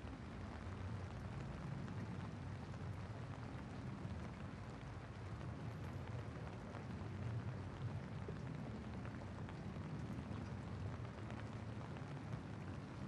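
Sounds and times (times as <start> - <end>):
rain on wet pavement: 0.0 - 13.0.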